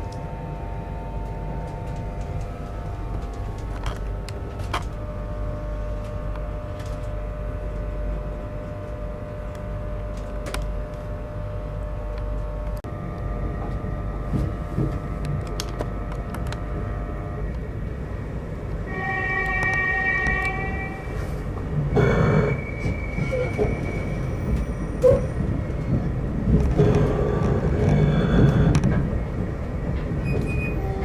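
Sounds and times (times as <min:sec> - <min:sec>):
steady humming tones: 0:00.0 - 0:23.8, 0:24.8 - 0:31.0
train power equipment rumbling: 0:00.0 - 0:31.0.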